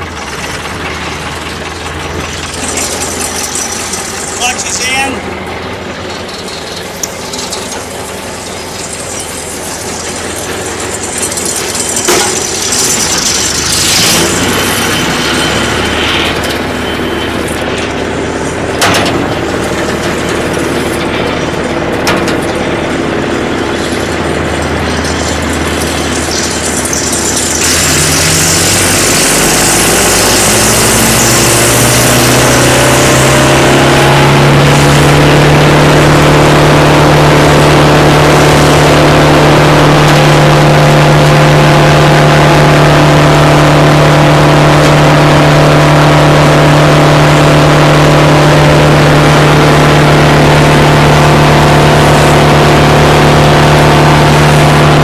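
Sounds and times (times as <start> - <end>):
chipper drum spinning: 0.0 - 55.0
diesel engine revving: 0.0 - 55.0.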